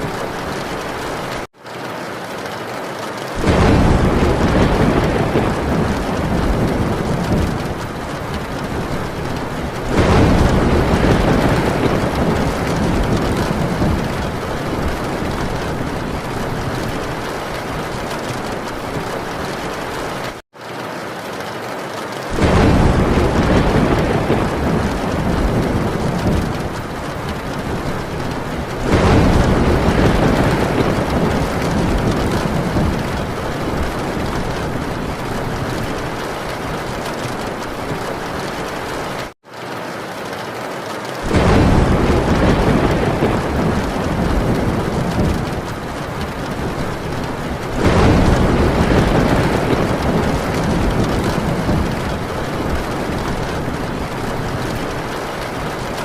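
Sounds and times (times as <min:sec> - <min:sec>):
thunder rumbling: 0:00.0 - 0:01.5, 0:03.2 - 0:20.4, 0:22.3 - 0:39.4, 0:41.1 - 0:56.0
heavy rain on a tin roof: 0:00.0 - 0:56.0.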